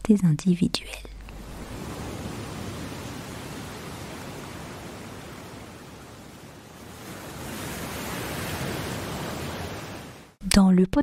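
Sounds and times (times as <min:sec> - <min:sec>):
ocean waves rushing: 0:01.2 - 0:10.4.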